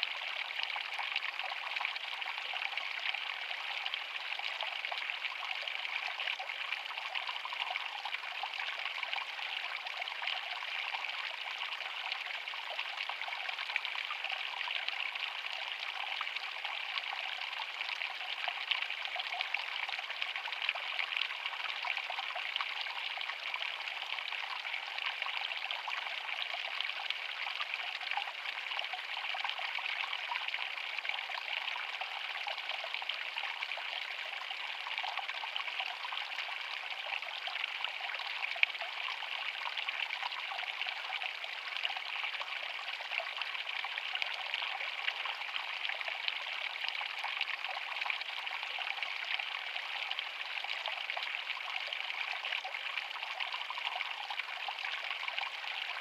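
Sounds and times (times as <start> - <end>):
creek trickling over stones: 0.0 - 56.0.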